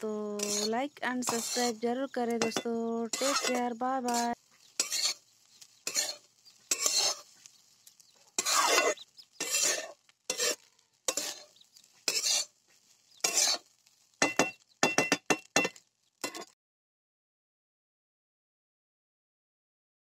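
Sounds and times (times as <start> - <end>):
steel spatula scraping a pan: 0.3 - 16.6.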